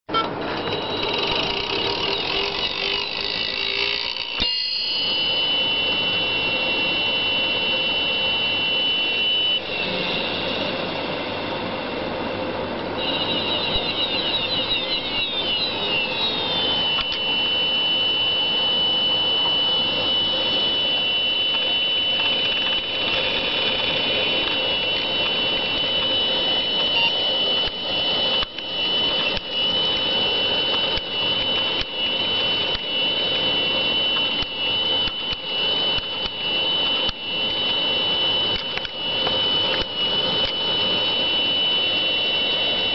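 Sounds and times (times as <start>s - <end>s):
hard drive whining and hissing: 0.1s - 42.9s.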